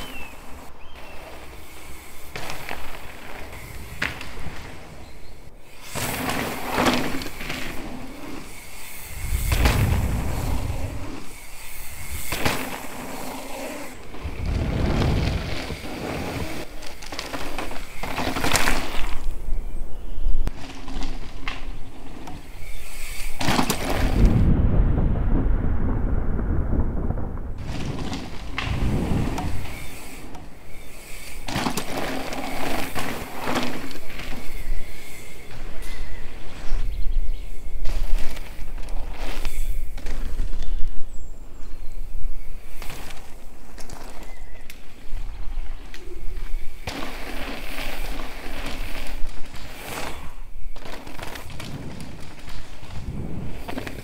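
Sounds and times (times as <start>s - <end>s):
bike tyres skidding on gravel: 0.0s - 54.0s.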